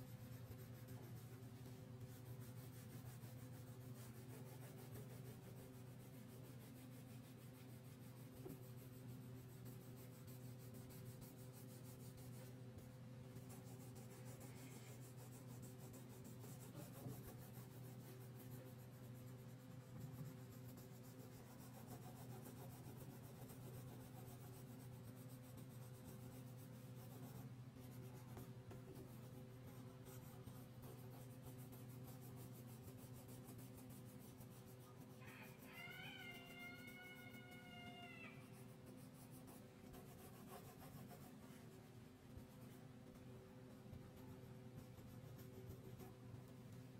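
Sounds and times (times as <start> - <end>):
crayon scratching on paper: 0.0 - 35.7, 38.4 - 43.2, 43.9 - 46.2
low steady hum: 0.0 - 35.7, 36.8 - 46.9.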